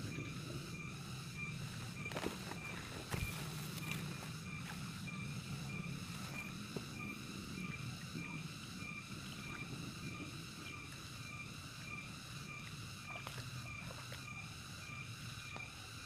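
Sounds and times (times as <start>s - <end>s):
water and mud sloshing: 1.4s - 14.5s.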